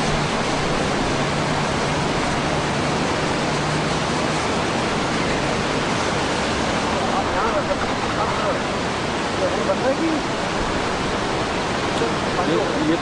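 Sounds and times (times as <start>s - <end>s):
faint low truck engine hum: 0.0s - 13.0s
river water rushing: 0.0s - 13.0s.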